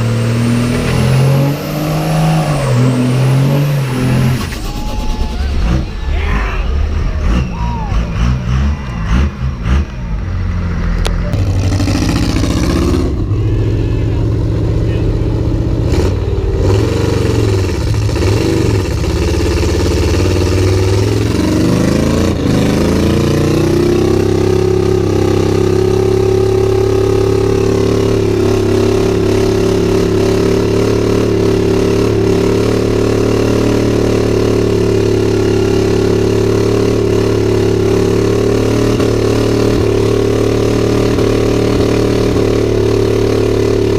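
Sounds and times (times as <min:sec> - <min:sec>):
diesel truck engine revving: 0:00.0 - 0:43.9.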